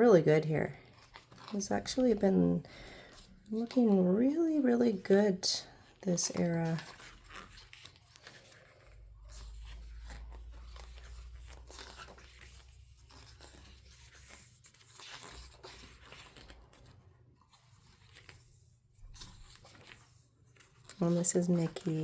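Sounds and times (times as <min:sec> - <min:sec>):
paper pages rustling: 0:00.1 - 0:22.0.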